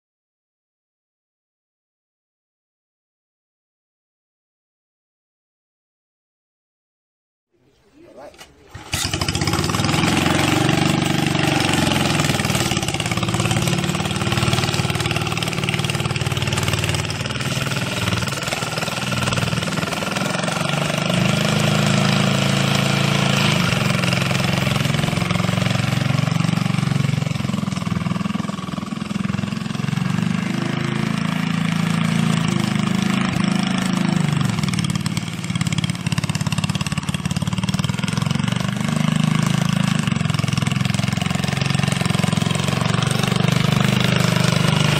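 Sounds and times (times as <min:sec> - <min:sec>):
small engine running: 0:08.7 - 0:44.9.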